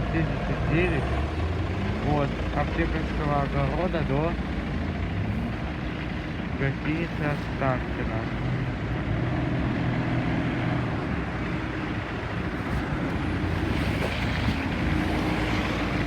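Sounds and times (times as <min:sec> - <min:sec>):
bus engine droning: 0:00.0 - 0:16.0
road and air noise: 0:00.0 - 0:16.0.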